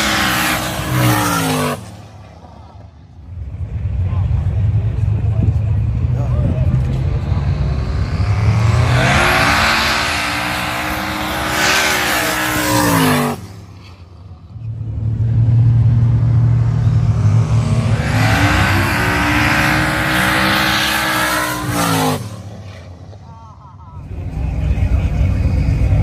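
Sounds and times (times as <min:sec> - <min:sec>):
drag car engine at full throttle: 0:00.0 - 0:26.0.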